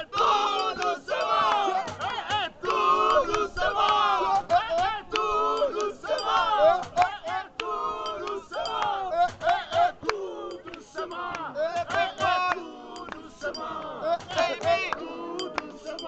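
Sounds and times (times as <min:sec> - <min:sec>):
people shouting: 0:00.0 - 0:16.0
people singing: 0:00.0 - 0:16.0.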